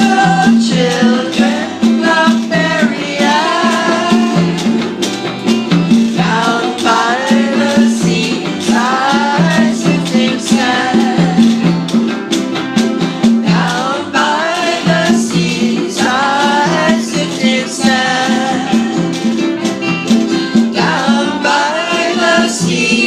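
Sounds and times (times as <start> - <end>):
person singing: 0.0 - 5.0, 5.9 - 11.9, 13.3 - 23.0
congas: 0.0 - 23.0.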